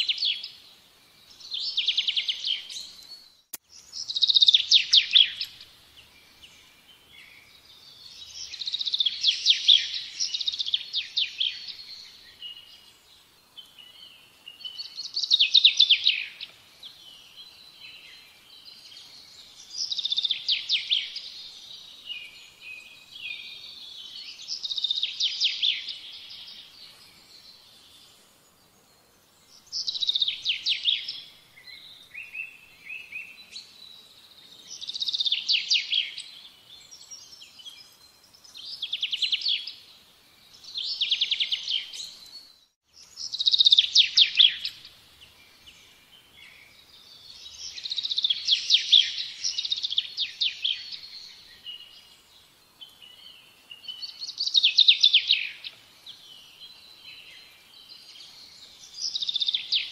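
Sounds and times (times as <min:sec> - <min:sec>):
faint bird twittering: 0:00.0 - 0:59.9
songbird singing trills: 0:00.0 - 0:59.9.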